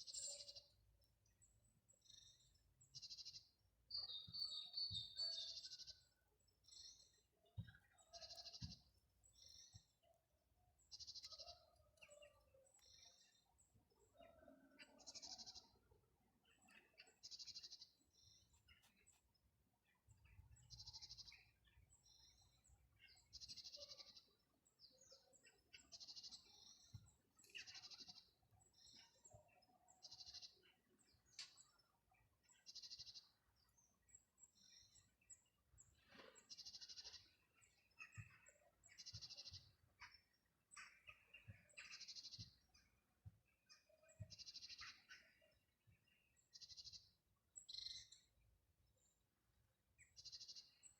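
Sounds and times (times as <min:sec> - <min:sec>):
bird chirps: 0:00.0 - 0:19.3, 0:19.9 - 0:48.4.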